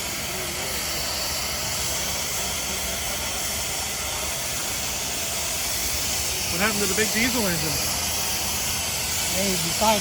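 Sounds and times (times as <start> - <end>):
steam hissing: 0.0 - 10.0.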